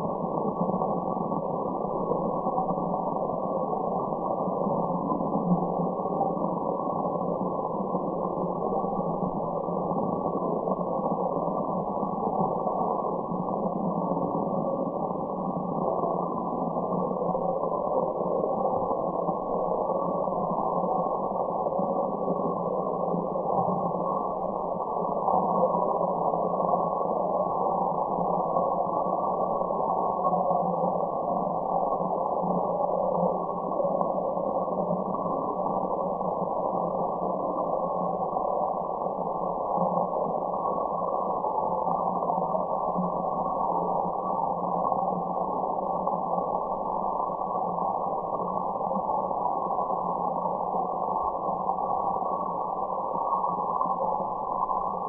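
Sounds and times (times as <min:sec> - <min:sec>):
muffled white noise hiss: 0:00.0 - 0:55.0.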